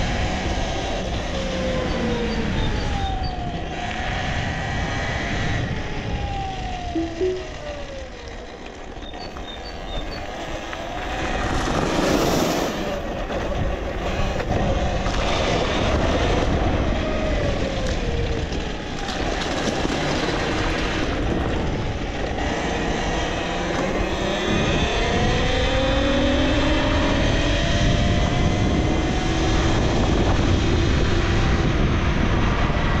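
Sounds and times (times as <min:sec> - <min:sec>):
wind and road noise: 0:00.0 - 0:33.0.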